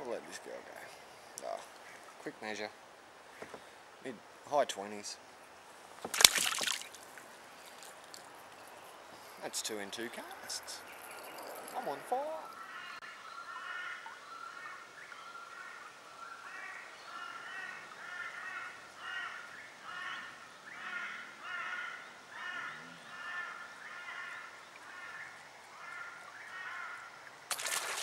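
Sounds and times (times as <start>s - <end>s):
birds calling: 5.4s - 28.0s.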